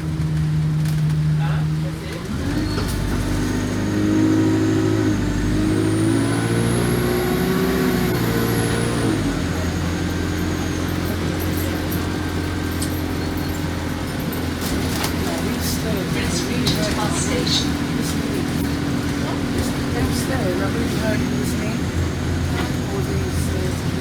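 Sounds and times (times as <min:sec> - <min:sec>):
bus engine pulling under load: 0:00.0 - 0:24.0.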